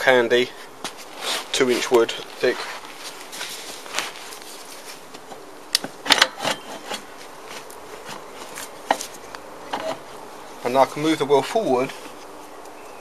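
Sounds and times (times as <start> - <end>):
flying insect buzzing: 0.1 - 13.0.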